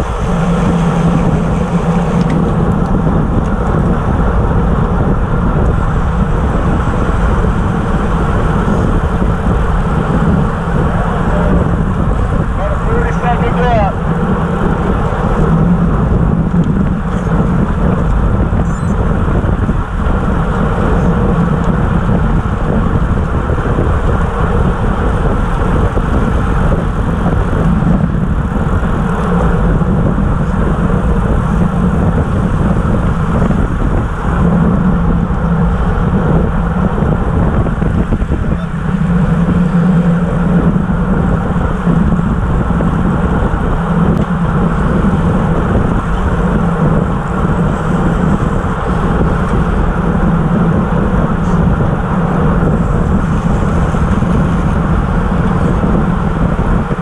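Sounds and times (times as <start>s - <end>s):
bicycle tyre and road noise: 0.0s - 57.0s
wind rush over microphone: 0.0s - 57.0s.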